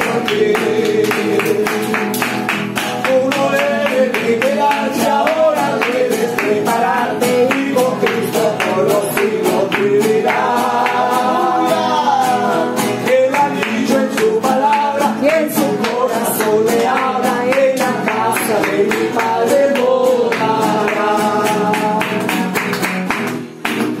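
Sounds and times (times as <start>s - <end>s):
person singing: 0.0s - 22.7s
strummed acoustic guitar: 0.0s - 24.0s.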